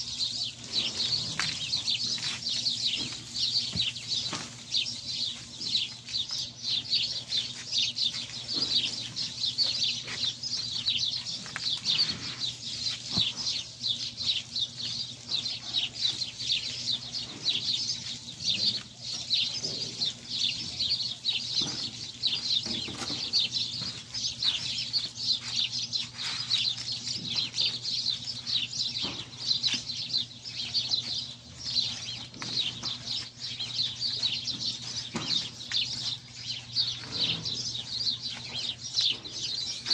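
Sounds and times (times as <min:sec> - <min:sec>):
flock of small birds chirping: 0:00.0 - 0:39.9
steady low hum: 0:00.0 - 0:39.9.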